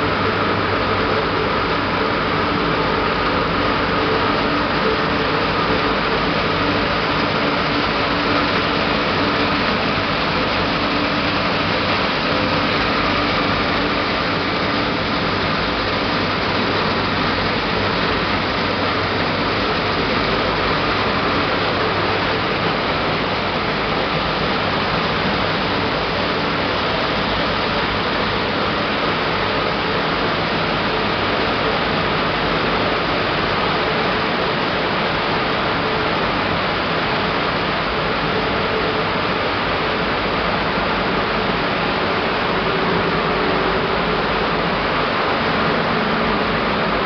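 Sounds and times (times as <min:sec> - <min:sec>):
low machine hum: 0:00.0 - 0:47.0.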